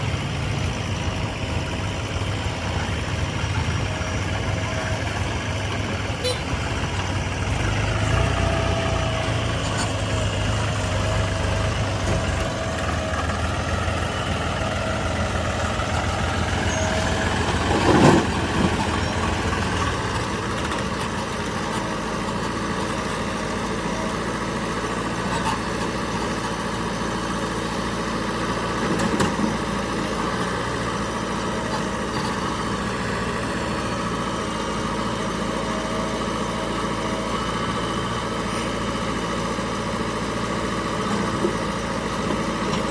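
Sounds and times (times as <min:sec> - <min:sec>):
diesel engines idling: 0:00.0 - 0:42.9.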